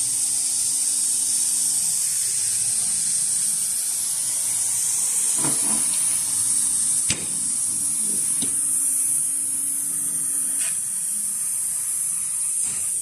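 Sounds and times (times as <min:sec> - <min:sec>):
high hiss of laser cutter gas: 0:00.0 - 0:13.0.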